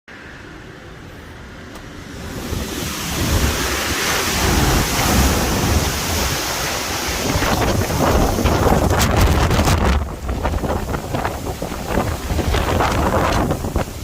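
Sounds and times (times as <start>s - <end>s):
strong wind buffeting microphone: 0.2s - 14.0s.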